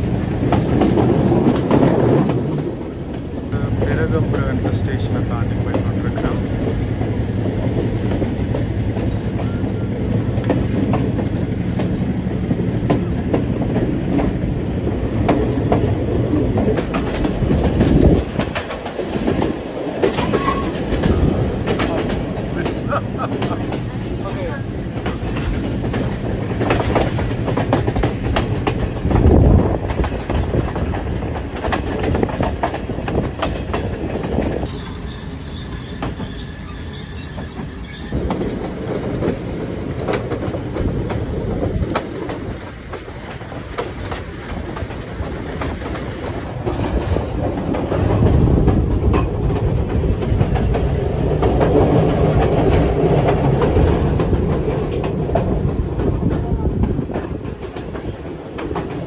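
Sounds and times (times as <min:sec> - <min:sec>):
train wheels clattering over rails: 0:00.0 - 0:59.0.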